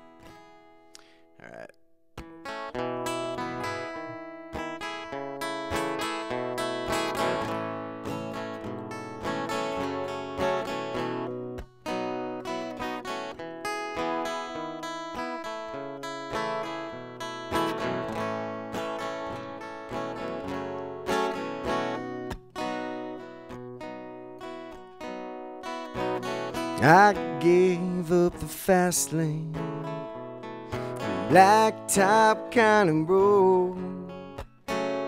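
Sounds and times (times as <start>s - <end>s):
acoustic guitar strummed chords: 0.0s - 35.0s.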